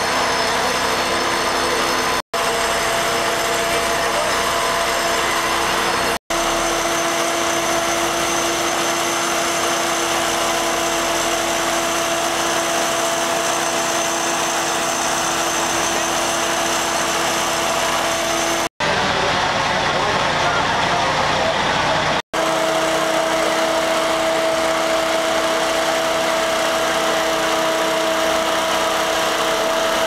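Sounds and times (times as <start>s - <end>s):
constant whine: 0.0s - 30.0s
engine drone: 0.0s - 30.0s.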